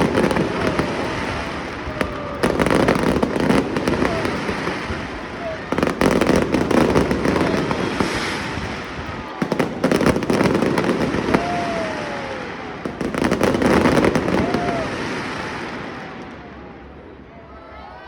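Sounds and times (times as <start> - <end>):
falling firework whistle: 0.0 - 16.6
fireworks bangs and crackling: 0.0 - 16.9.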